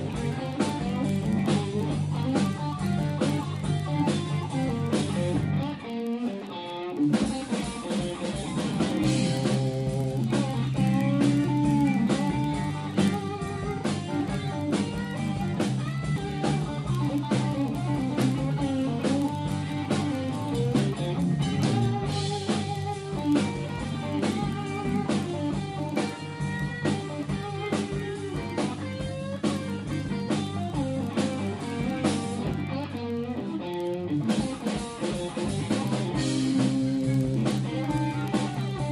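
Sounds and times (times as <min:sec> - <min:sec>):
drums: 0:00.0 - 0:38.9
guitar: 0:00.0 - 0:38.9.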